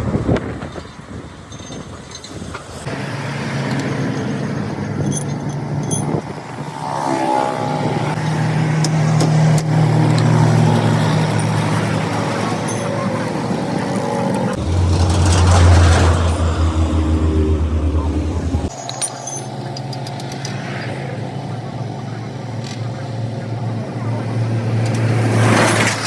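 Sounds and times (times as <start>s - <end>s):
heavy vehicle engine running: 2.8s - 18.8s, 21.0s - 26.0s.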